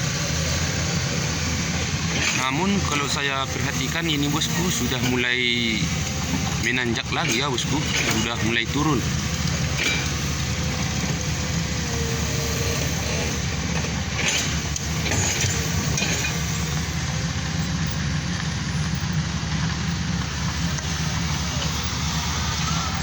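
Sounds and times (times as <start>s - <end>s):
engine running with low rumble: 0.0s - 23.0s.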